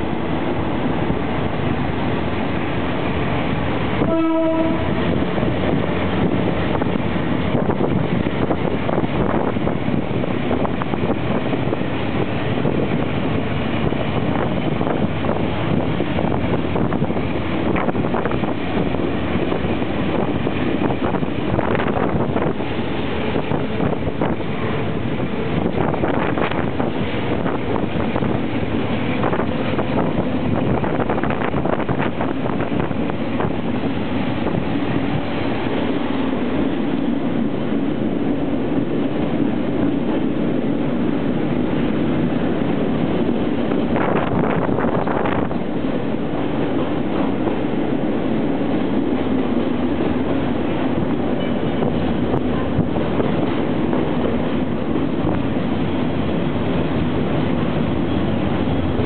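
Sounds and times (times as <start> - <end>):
train wheels rattling on rails: 0.0 - 59.0
wind across microphone: 0.0 - 59.0.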